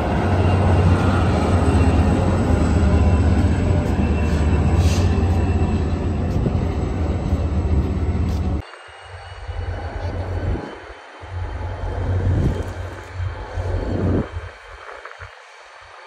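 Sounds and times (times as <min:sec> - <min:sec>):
train passing with low rumble: 0:00.0 - 0:16.0.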